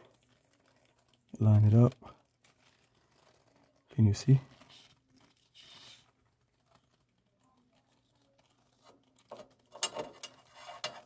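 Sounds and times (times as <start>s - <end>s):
faint clicks and scrapes on sheet metal: 0.0s - 11.0s.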